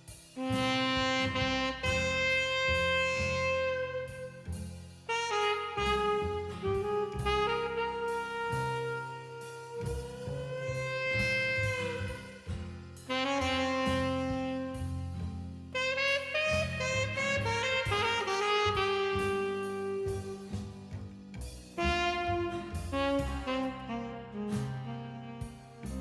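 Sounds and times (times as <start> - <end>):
jazzy accompaniment: 0.0 - 26.0
saxophone slow melody: 0.0 - 26.0.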